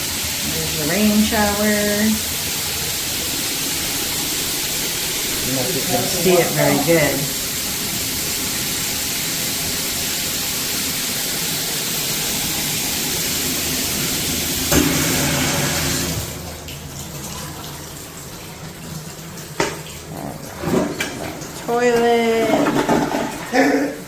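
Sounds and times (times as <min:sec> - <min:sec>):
shower water streaming: 0:00.0 - 0:24.0.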